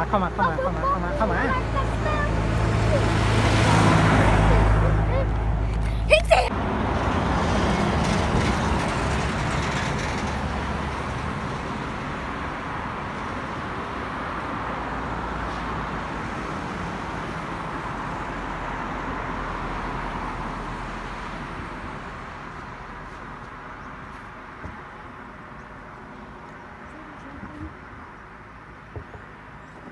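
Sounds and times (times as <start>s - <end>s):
vehicle engine and tyre noise: 0.0s - 29.9s.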